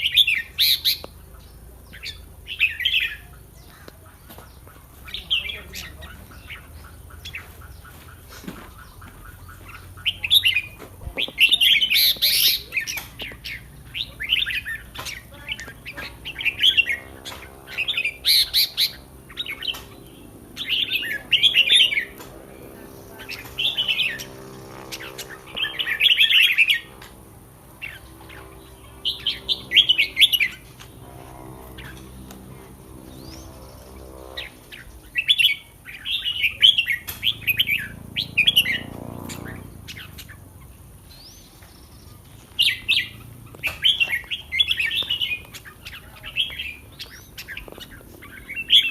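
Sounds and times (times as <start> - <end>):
bird singing warbling phrases: 0.0 - 48.9.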